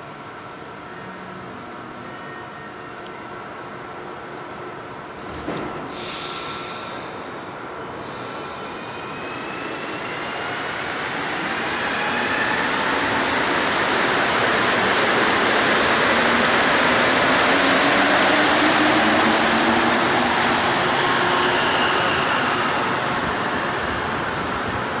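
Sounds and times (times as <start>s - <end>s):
train rushing out of station: 0.1s - 25.0s.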